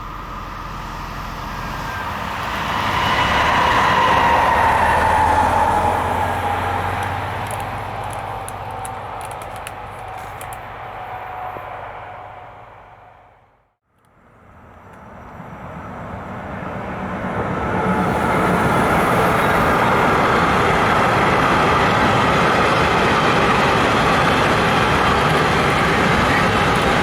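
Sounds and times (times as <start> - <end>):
train wheels rushing on rails: 0.0 - 13.4, 14.7 - 27.0.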